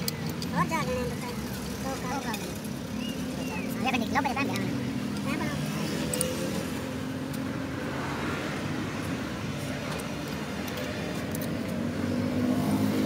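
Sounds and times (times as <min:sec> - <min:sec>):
traffic noise: 0:00.0 - 0:13.0
vehicle engine humming: 0:00.0 - 0:13.0.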